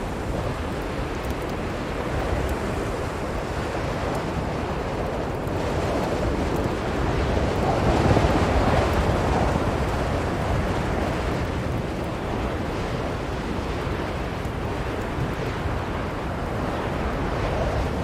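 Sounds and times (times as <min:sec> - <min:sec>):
blizzard wind rushing: 0:00.0 - 0:18.0.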